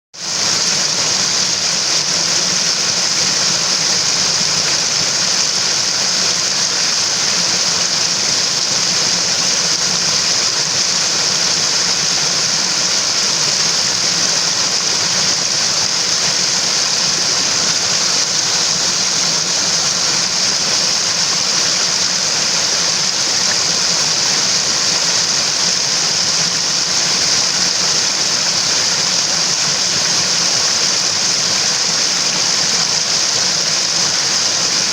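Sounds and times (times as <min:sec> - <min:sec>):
stream water rushing: 0:00.2 - 0:34.9.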